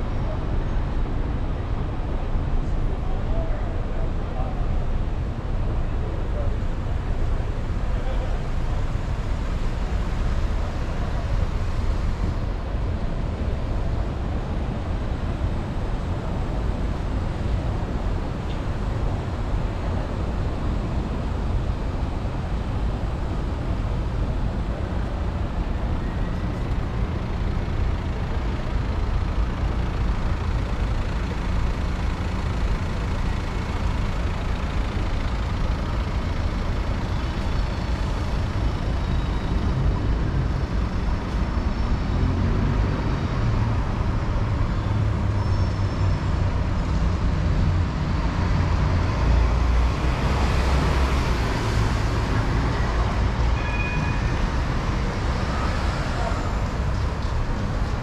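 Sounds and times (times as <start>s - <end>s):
cars and buses passing: 0.0s - 58.0s.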